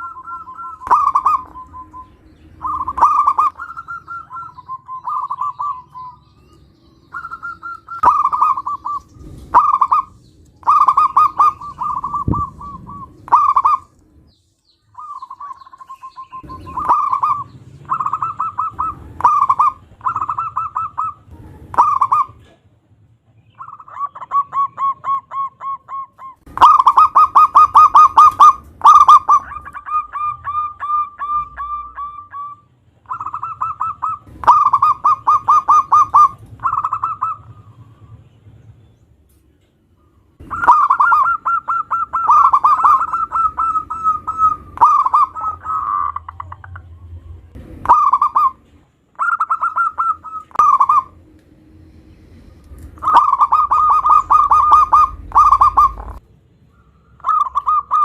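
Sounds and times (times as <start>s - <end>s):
dove cooing: 0.0s - 6.2s, 7.1s - 13.9s, 14.9s - 22.6s, 23.6s - 38.2s, 40.0s - 51.3s, 52.6s - 56.2s, 56.8s - 58.0s.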